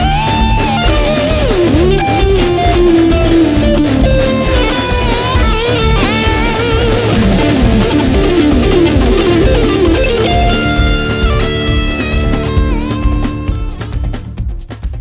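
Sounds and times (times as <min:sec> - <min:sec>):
guitar melody with bending notes: 0:00.0 - 0:14.3
steady driving beat: 0:00.0 - 0:15.0.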